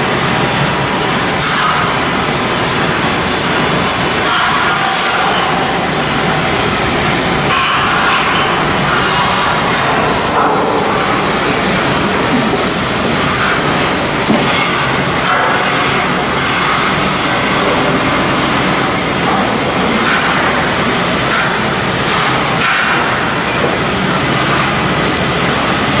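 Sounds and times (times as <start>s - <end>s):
mechanical din of shipbuilding: 0.0s - 26.0s.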